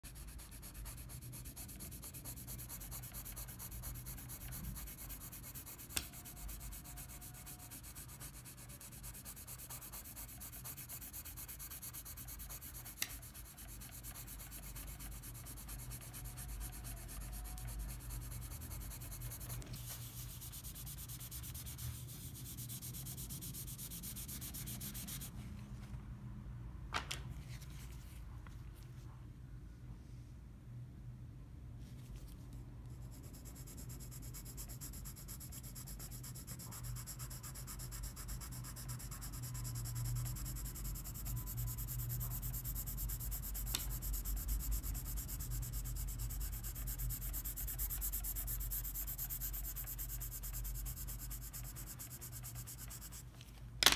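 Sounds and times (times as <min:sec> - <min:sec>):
pencil scratching on paper: 0:00.0 - 0:25.3, 0:33.0 - 0:53.3.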